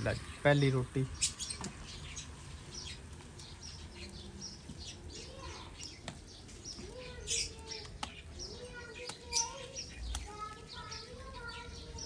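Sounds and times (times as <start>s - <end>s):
small birds chirping: 0.0s - 12.0s
wood fire crackling: 0.0s - 12.0s.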